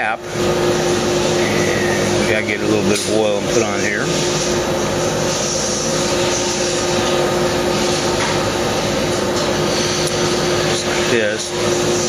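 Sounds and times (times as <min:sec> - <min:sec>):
constant hum: 0:00.0 - 0:12.0
machinery drone: 0:00.0 - 0:12.0.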